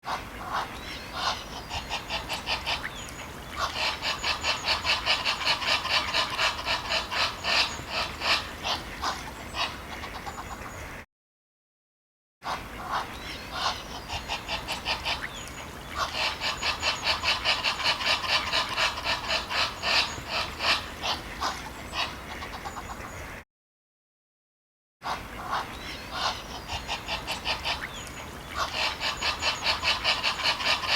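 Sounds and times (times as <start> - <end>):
ducks quacking: 0.1 - 11.0, 12.4 - 23.4, 25.0 - 30.9.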